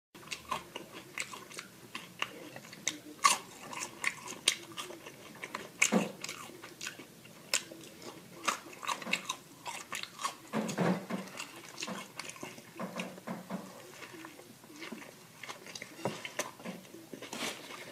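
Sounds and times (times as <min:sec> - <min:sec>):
person chewing crunchy food: 0:00.2 - 0:17.9.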